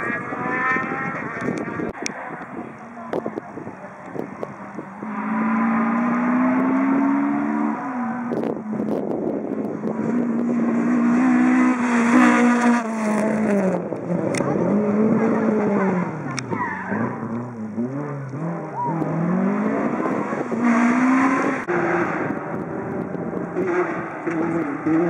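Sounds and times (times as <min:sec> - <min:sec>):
rally car engine revving: 0:00.0 - 0:02.0, 0:03.0 - 0:25.0.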